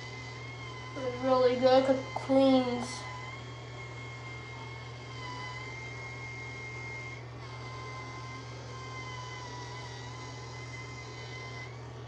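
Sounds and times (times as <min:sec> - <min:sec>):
facial cleansing brush motor whine: 0:00.0 - 0:12.0.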